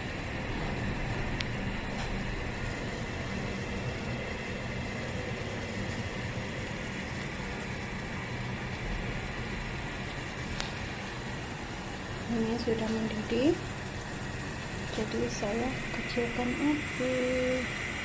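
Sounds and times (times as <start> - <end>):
low hum: 0.0 - 18.0
pot of water boiling: 0.0 - 18.0.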